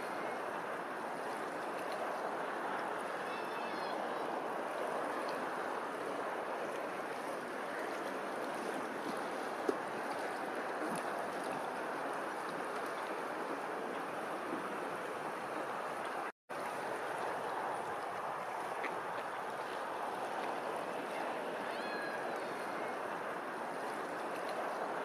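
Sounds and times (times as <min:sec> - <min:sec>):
open water rushing: 0:00.0 - 0:25.0.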